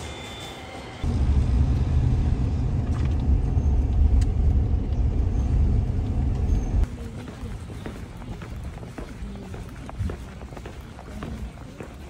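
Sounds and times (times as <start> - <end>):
road traffic rumble: 0.7 - 12.0.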